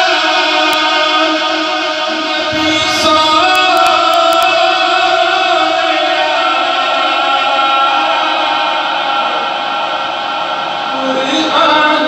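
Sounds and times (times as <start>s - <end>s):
man chanting into microphone: 0.0s - 12.0s.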